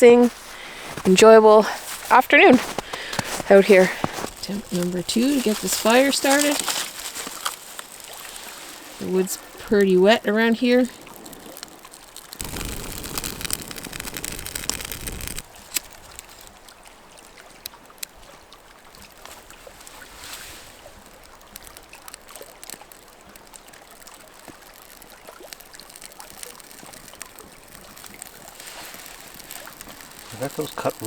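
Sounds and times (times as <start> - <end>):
fire crackling and popping: 0.0 - 31.0
fire hissing faintly: 0.0 - 31.0.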